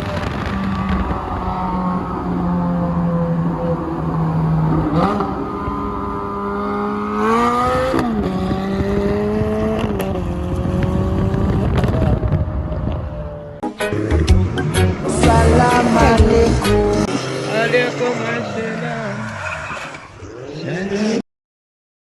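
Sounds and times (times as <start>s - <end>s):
sports car engine accelerating: 0.0s - 19.0s.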